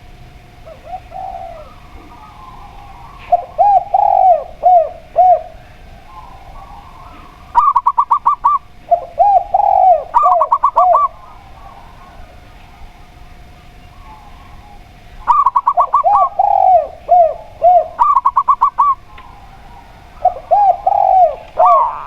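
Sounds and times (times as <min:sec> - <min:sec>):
doves cooing: 0:00.0 - 0:22.0.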